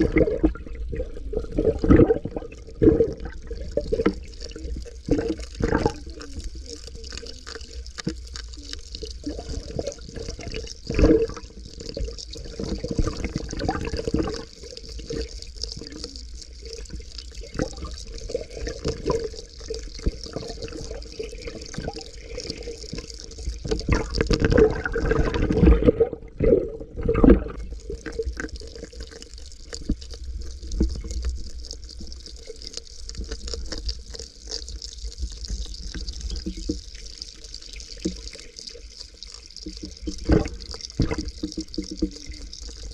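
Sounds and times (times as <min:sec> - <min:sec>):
muffled underwater sloshing: 0:00.0 - 0:42.9.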